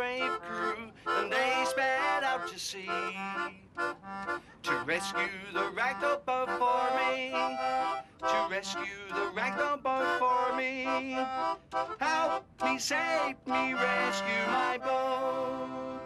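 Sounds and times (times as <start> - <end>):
instrumental tune of held notes: 0.0 - 16.0.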